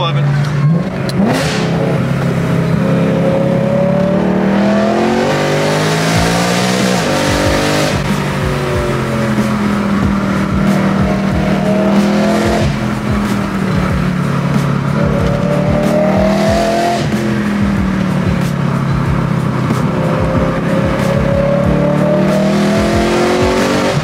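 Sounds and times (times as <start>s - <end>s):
car engine revving: 0.0s - 24.0s
exhaust popping: 0.0s - 24.0s.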